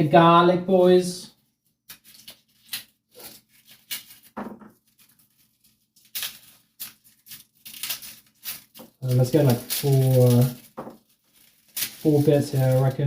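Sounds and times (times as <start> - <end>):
garlic skin rustling and tearing: 1.9 - 13.0.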